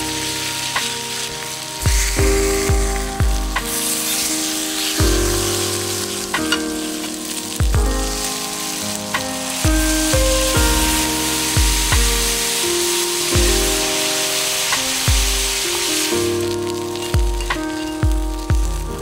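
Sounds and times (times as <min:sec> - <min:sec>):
background music with deep bass: 0:00.0 - 0:19.0
food sizzling on a griddle: 0:00.0 - 0:19.0.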